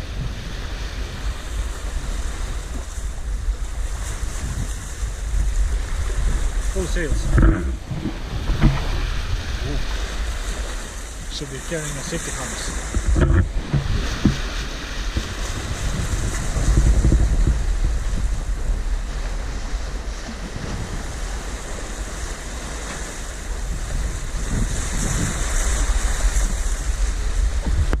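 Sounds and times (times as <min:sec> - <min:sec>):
sea water washing: 0:00.0 - 0:28.0
wind buffeting microphone: 0:00.0 - 0:28.0.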